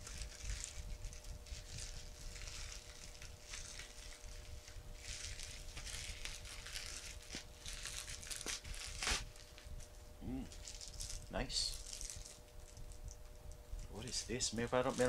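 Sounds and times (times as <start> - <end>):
plastic packaging crinkling: 0.0 - 9.9, 10.5 - 15.0.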